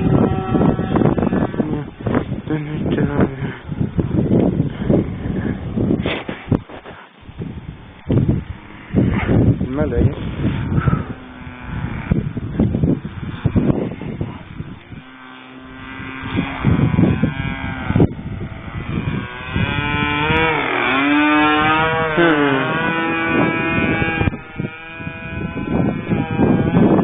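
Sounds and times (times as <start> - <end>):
propeller plane passing: 0.0 - 6.0, 7.3 - 27.0.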